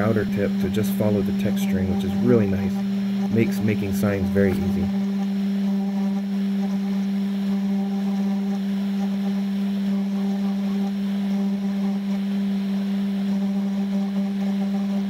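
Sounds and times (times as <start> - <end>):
router spindle motor whining: 0.0 - 15.0.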